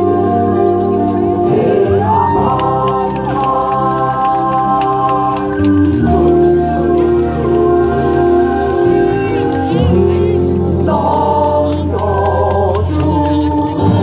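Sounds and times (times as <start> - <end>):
music with held notes: 0.0 - 14.0
voices singing: 0.0 - 14.0.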